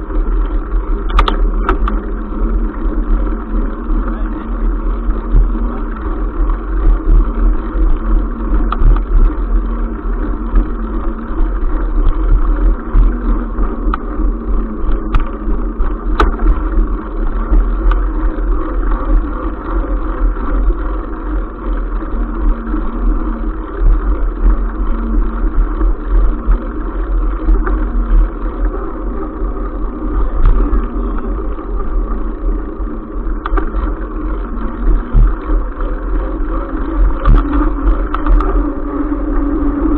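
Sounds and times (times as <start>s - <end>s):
bicycle rolling on concrete: 0.0s - 39.9s.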